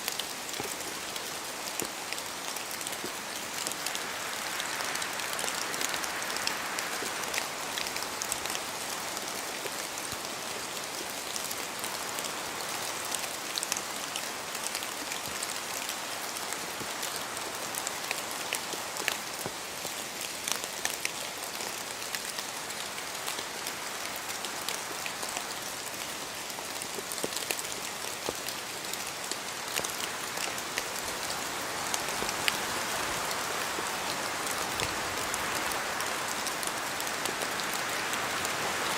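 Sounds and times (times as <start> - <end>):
rain ticking on leaves: 0.0 - 38.9
wind through trees: 0.0 - 38.9.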